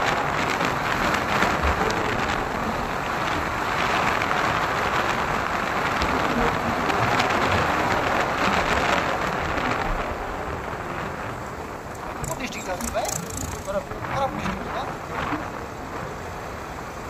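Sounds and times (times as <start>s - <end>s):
rushing wind and road noise: 0.0s - 17.0s
wind buffeting microphone: 0.0s - 17.0s.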